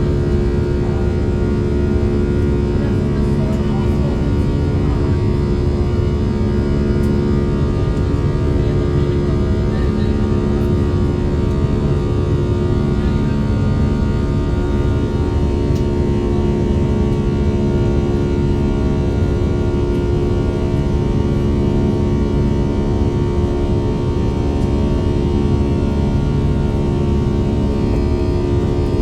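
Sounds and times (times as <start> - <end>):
airliner engines droning in cabin: 0.0 - 29.0.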